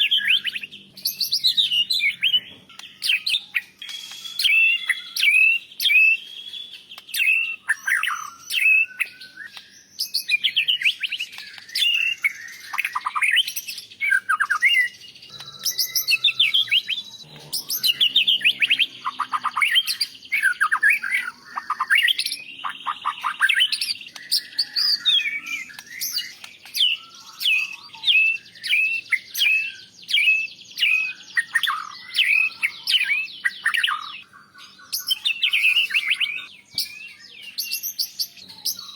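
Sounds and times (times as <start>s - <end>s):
bird singing whistled song: 0.0s - 38.9s.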